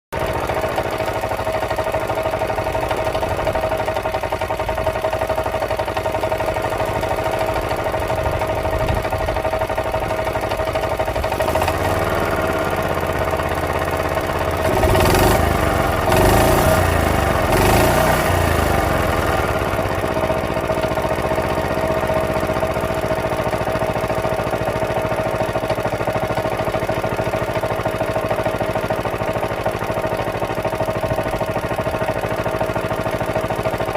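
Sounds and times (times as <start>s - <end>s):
stationary engine running: 0.2s - 33.9s.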